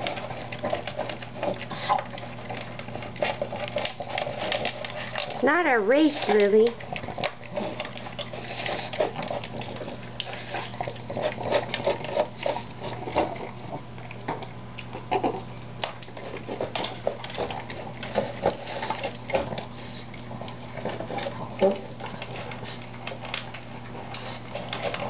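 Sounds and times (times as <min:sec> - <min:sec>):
dog eating from plastic bowl: 0:00.0 - 0:25.0.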